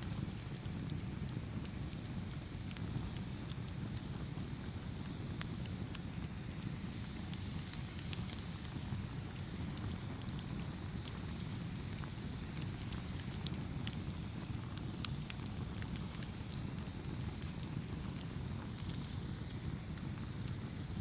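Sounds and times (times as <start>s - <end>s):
fire crackling and popping: 0.0s - 21.0s
wood fire rumbling: 0.0s - 21.0s.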